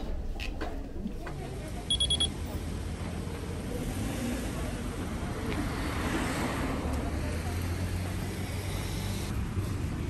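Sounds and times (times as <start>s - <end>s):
cars passing: 1.9s - 10.0s.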